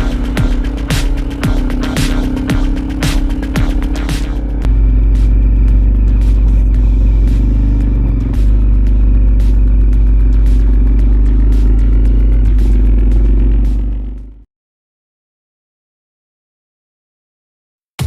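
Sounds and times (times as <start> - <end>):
vehicle rumbling offroad: 0.0 - 14.5.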